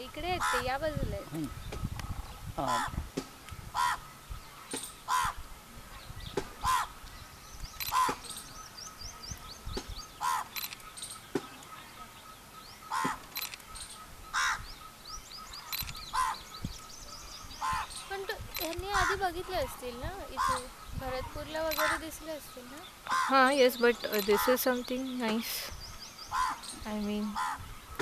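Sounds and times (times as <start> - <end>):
loud harsh bird calls: 0.0 - 3.0, 3.6 - 28.0
small birds chirping: 0.0 - 28.0.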